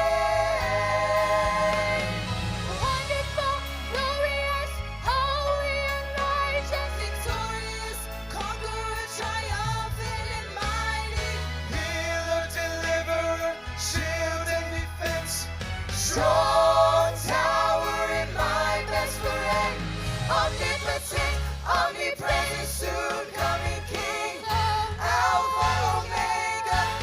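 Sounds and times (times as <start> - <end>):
instrumental accompaniment with bass: 0.0 - 27.0
voices singing gospel together: 0.0 - 27.0.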